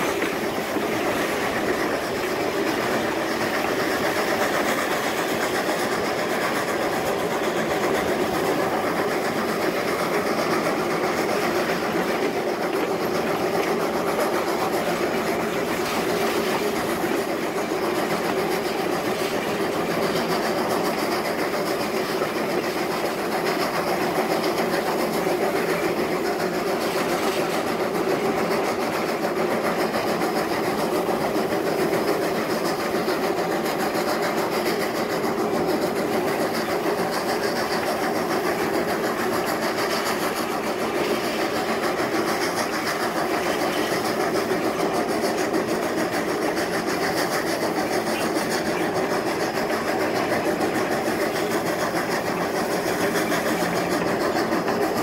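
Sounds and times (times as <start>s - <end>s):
steam locomotive exhaust chuffing: 0.0s - 55.0s.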